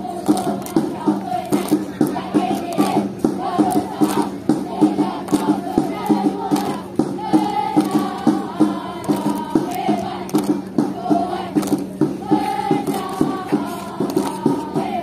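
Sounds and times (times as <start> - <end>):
crowd chanting and singing: 0.0 - 15.0
steady knocking beat: 0.0 - 15.0.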